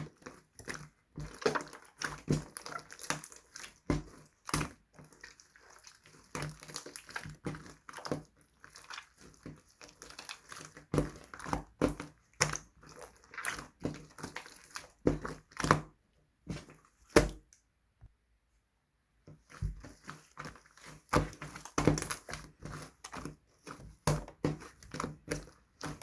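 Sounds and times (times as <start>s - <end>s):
slime squished by hand: 0.0s - 17.6s, 19.4s - 26.0s.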